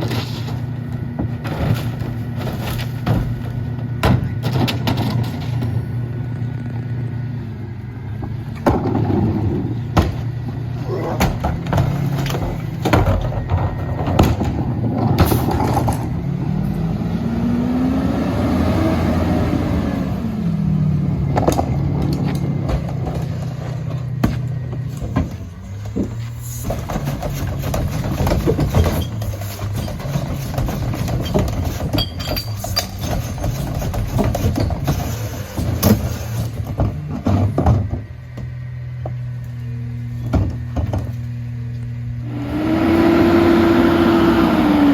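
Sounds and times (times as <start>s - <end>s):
garbage truck diesel engine: 0.0s - 44.9s.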